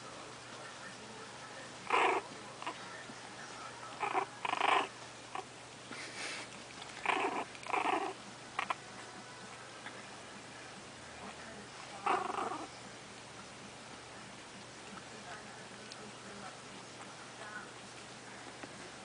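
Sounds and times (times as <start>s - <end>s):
puppies growling: 1.7s - 19.0s.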